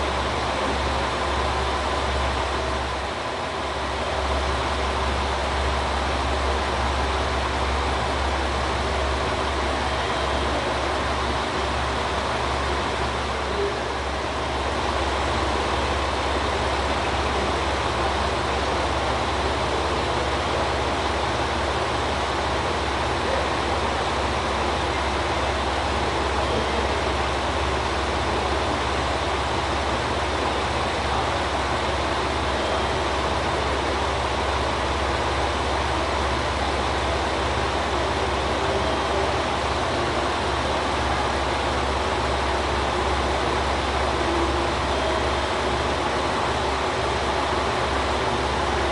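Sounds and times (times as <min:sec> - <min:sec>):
diesel railcar idling: 0:00.0 - 0:48.9.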